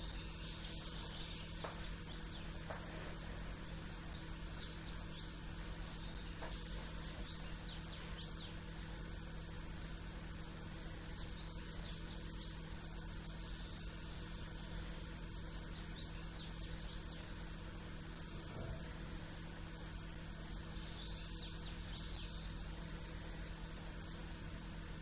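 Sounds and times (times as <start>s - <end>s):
low background hum: 0.0s - 25.0s
songbirds chirping: 0.0s - 25.0s.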